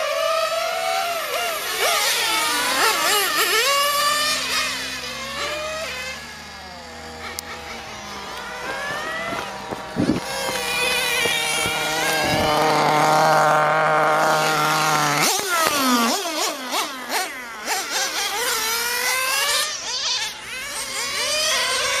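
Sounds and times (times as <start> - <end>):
model car engine revving: 0.0 - 22.0.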